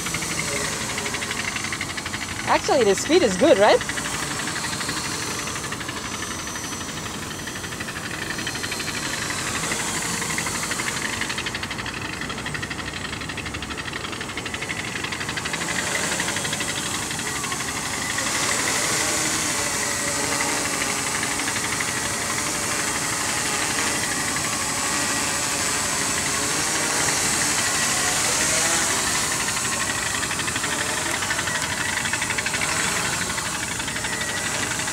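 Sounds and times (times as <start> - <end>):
drone propellers whirring hum: 0.0 - 34.9.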